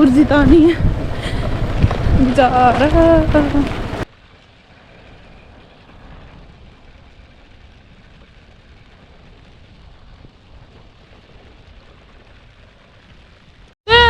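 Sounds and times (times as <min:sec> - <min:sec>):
low uneven rumble: 0:00.0 - 0:13.8
rushing noise of scooter ride: 0:00.0 - 0:14.0.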